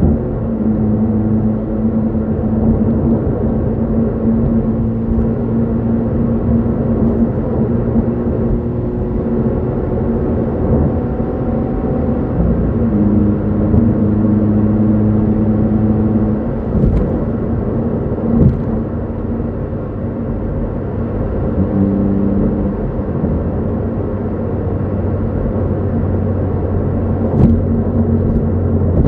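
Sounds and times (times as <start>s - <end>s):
car engine accelerating hard: 0.0s - 29.0s
road rumble: 0.0s - 29.0s.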